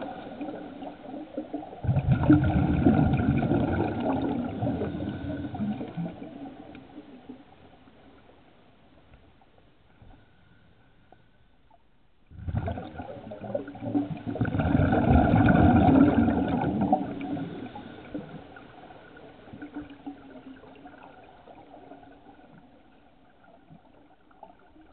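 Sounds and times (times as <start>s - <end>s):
underwater exhaled bubbles: 0.0s - 8.2s, 12.3s - 24.9s.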